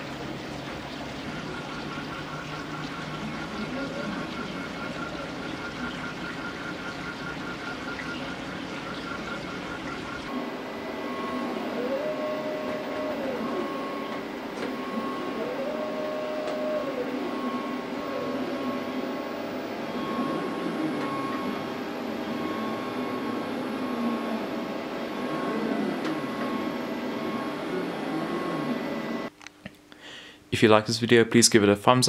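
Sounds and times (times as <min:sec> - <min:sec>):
stepper motors whining: 0:00.0 - 0:29.3
steady hum: 0:00.0 - 0:31.6.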